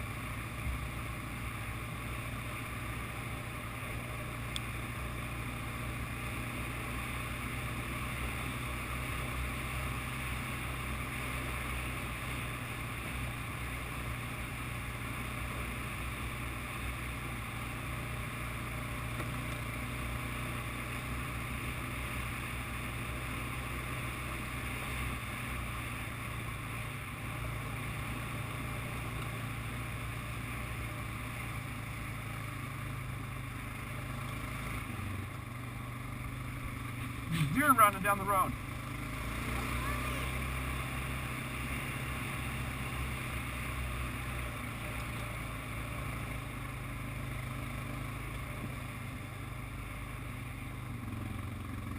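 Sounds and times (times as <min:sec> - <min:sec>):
atv engine running: 0:00.0 - 0:51.9.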